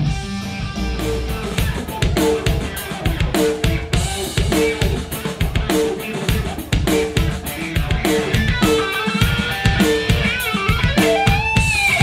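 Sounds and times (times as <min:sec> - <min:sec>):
drum kit beat: 0:00.0 - 0:12.0
electric guitar riff: 0:00.0 - 0:12.0.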